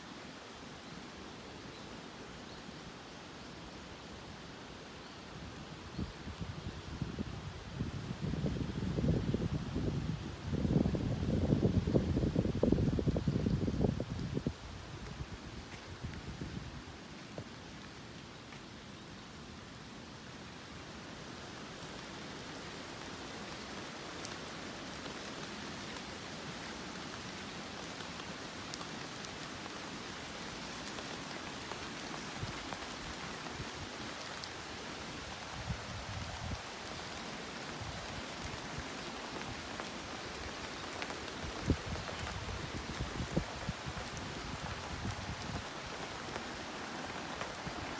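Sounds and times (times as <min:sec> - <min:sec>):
steady rainfall: 0:00.0 - 0:47.9.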